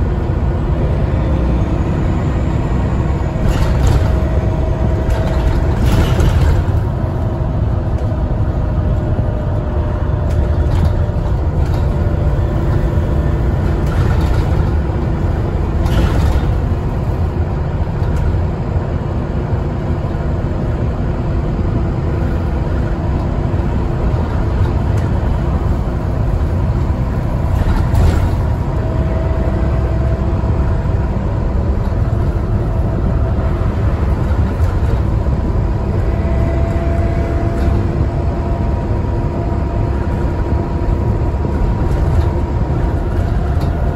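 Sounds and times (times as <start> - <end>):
bus engine rumble: 0.0 - 43.9.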